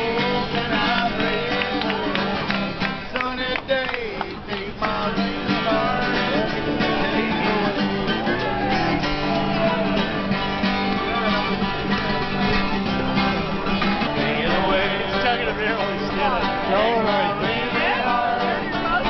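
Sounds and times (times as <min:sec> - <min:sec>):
acoustic guitar strumming: 0:00.0 - 0:19.0
background voices: 0:00.0 - 0:19.0.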